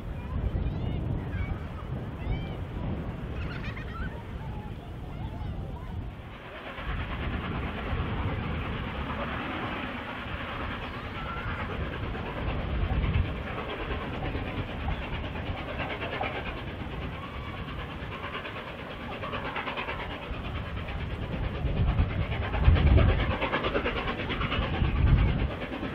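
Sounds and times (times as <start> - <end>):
distant steam locomotive rumbling: 0.0 - 25.9.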